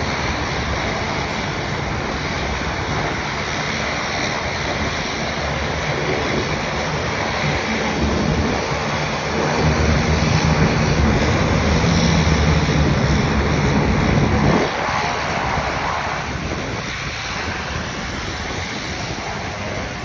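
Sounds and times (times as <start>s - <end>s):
floatplane engine droning: 0.0s - 20.0s
wind buffeting microphone: 0.0s - 20.0s.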